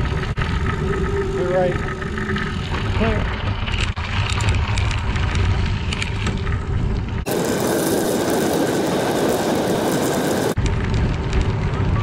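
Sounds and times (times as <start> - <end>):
bicycle tyres rolling over gravel: 0.0 - 12.0.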